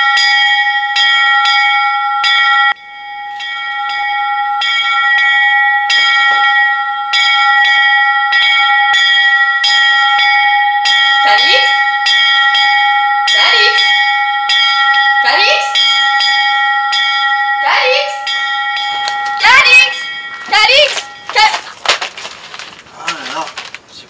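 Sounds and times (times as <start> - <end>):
small bell clanging: 0.0 - 22.8.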